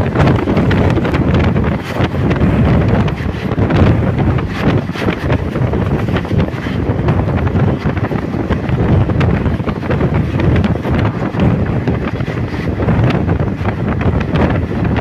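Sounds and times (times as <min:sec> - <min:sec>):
low rumble of train on track: 0:00.0 - 0:15.0
wind buffeting microphone: 0:00.0 - 0:15.0.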